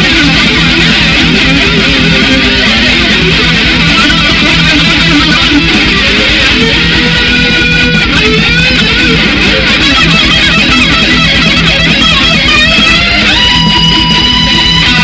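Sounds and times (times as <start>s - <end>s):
bending lead guitar notes: 0.0s - 15.0s
metal electric guitars: 0.0s - 15.0s.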